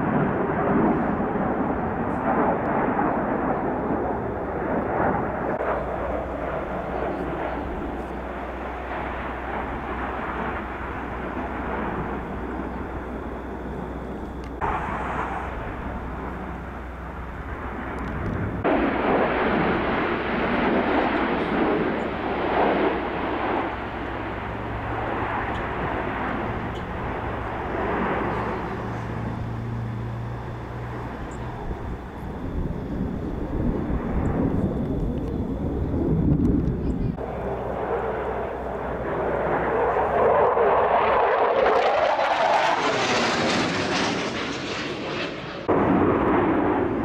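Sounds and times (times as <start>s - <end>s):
low steady hum: 0.0s - 41.1s
aircraft engine rushing: 0.0s - 47.0s.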